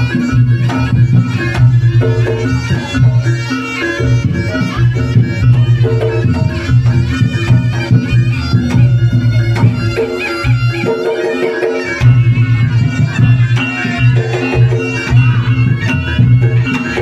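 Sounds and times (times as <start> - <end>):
drum strokes: 0.0 - 17.0
shawm playing melody: 0.0 - 17.0.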